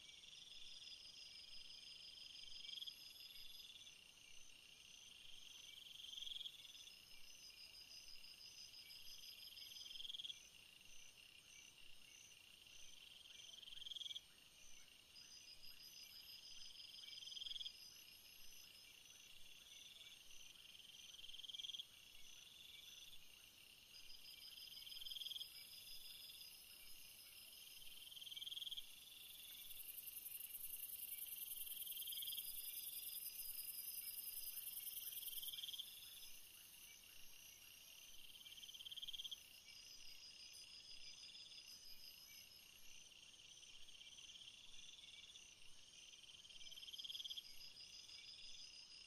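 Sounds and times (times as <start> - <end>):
insect chirping trills: 0.0 - 49.0.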